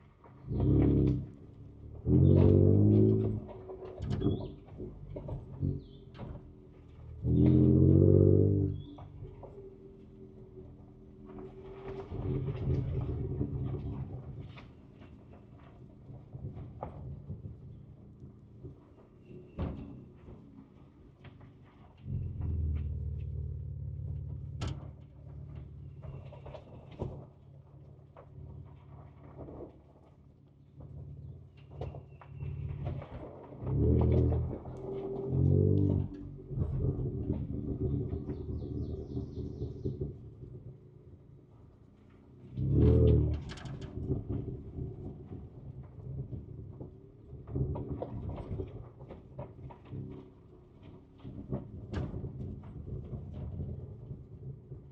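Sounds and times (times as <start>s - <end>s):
engine running at low speed: 0.0s - 54.9s.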